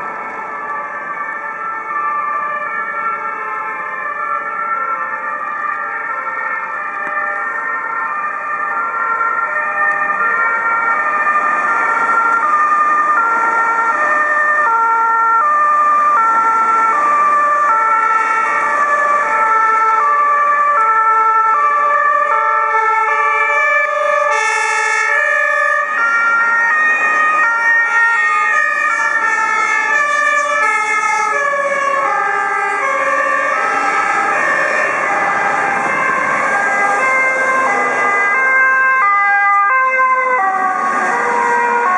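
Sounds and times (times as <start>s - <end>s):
traffic noise: 0.0s - 41.9s
truck engines: 0.0s - 41.9s
two-tone fire engine sirens: 0.0s - 41.9s.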